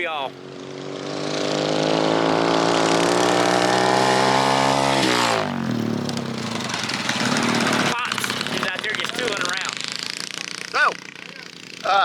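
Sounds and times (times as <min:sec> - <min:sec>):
small vehicle engine revving: 0:00.0 - 0:12.0.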